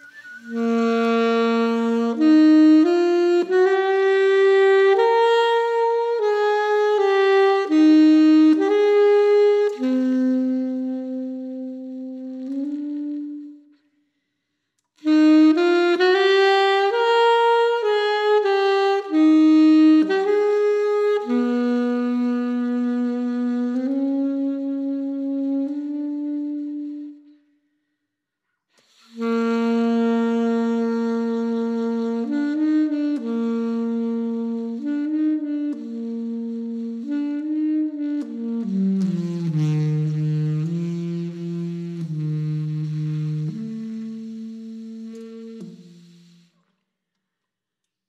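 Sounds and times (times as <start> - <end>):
solo saxophone melody: 0.0 - 27.7, 28.7 - 46.8.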